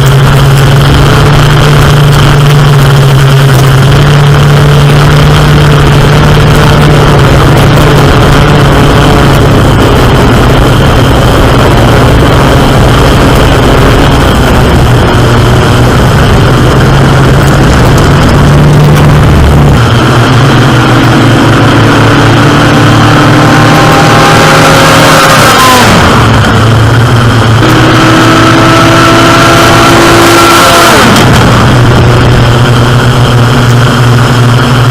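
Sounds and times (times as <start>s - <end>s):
airboat engine drone: 0.0s - 34.9s.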